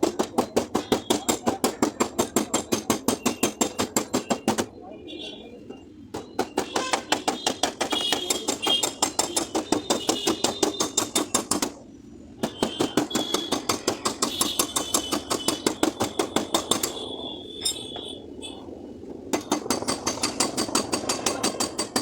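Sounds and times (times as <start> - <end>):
hammer tapping on sheet metal: 0.0 - 4.7, 6.1 - 11.8, 12.4 - 17.1, 19.3 - 22.0.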